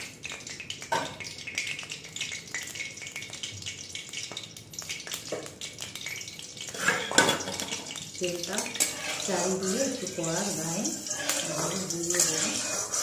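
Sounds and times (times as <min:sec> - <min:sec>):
oil crackling and popping: 0:00.0 - 0:13.0.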